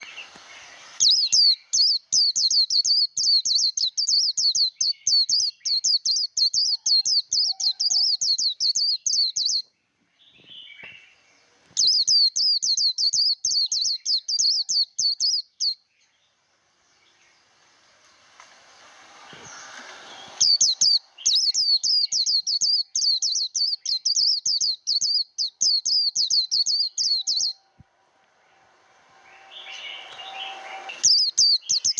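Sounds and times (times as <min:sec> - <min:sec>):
bird singing rapid high song: 0:00.0 - 0:17.7, 0:18.8 - 0:27.8, 0:28.4 - 0:31.9.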